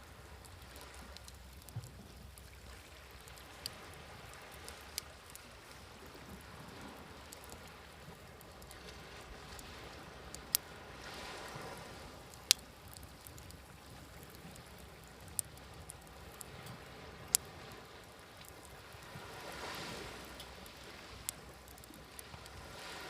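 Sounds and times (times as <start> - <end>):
sea waves: 0.0 - 23.0
wood fire crackling and popping: 0.0 - 23.0.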